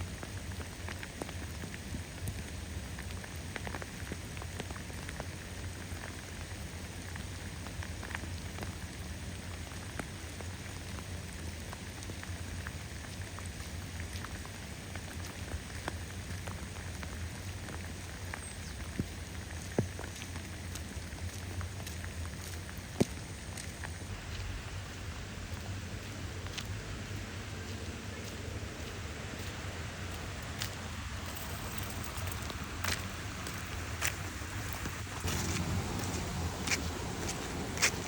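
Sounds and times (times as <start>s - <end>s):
rain falling: 0.0s - 38.0s
raindrops ticking: 0.1s - 38.0s.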